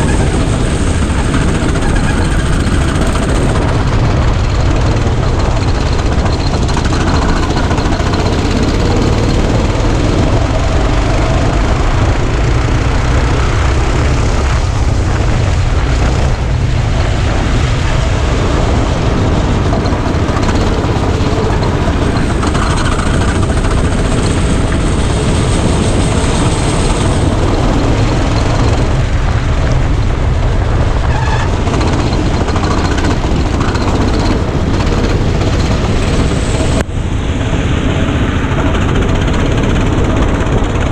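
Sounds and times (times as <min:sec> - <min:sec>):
go-kart engine running: 0:00.0 - 0:40.9
track noise: 0:00.0 - 0:40.9
wind noise: 0:00.0 - 0:40.9.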